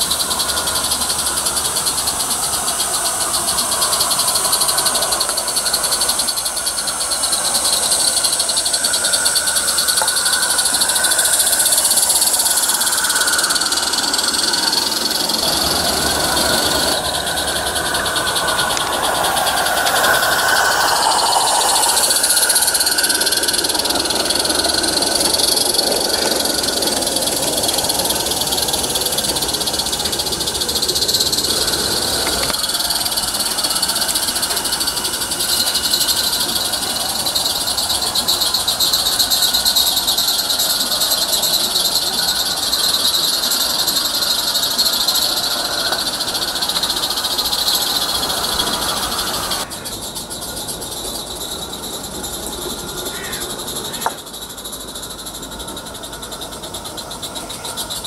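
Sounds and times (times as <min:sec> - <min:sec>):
steam hiss: 0:00.0 - 0:58.0
steam locomotive chuffing: 0:00.0 - 0:58.0.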